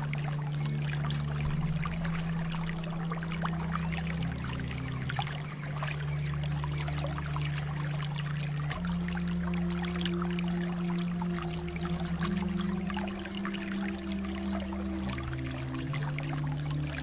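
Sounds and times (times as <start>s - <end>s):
low shifting drone: 0.0s - 17.0s
water trickling and bubbling: 0.0s - 17.0s.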